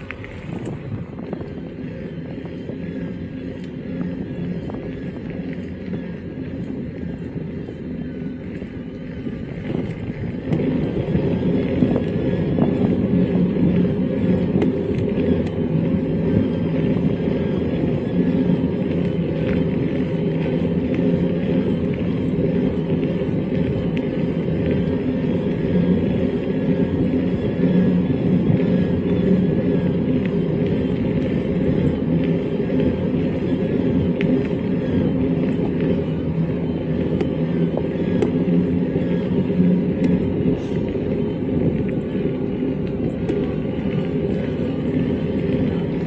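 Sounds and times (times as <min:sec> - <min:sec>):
bike tyres rolling over track: 0:00.0 - 0:46.0
wind buffeting microphone: 0:00.0 - 0:46.0.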